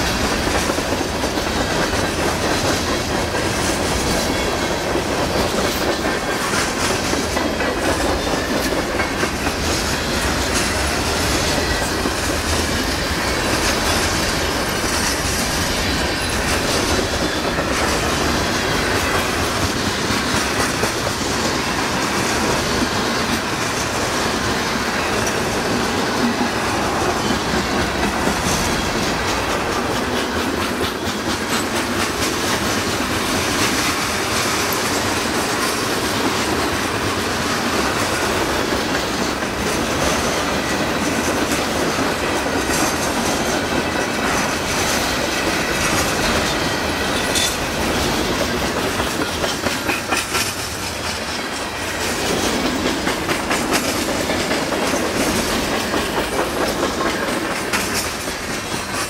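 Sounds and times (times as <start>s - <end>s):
freight train wheels rumbling: 0.0s - 59.0s
wheels clicking over rail joints: 0.0s - 59.0s.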